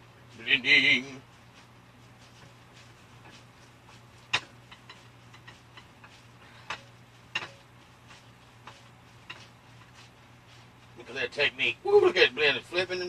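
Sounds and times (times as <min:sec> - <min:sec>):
hands mixing meat in a bowl: 0:00.2 - 0:13.0.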